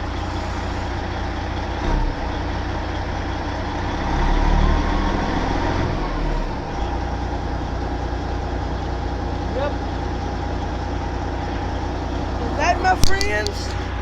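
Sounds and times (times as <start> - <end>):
diesel truck engine idling and revving: 0.0 - 14.0.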